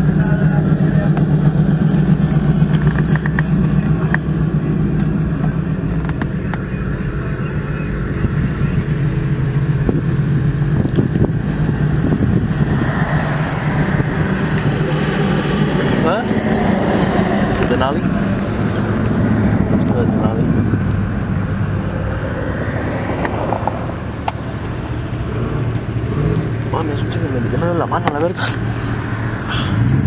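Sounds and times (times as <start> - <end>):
pickup truck engines rumbling: 0.0 - 30.0.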